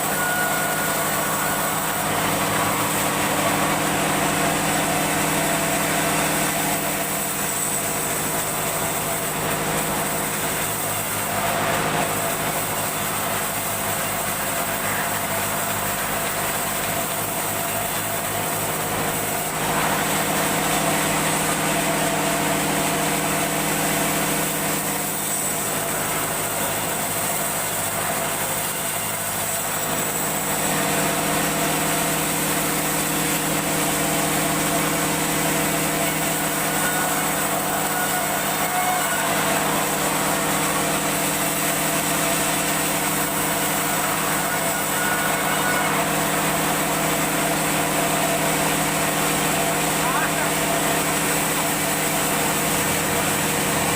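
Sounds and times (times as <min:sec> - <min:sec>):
power saw cutting wood: 0:00.0 - 0:53.9.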